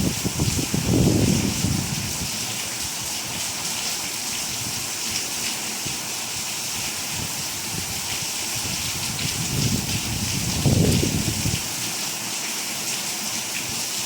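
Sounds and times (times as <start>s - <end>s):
steady rain hissing: 0.0s - 14.0s.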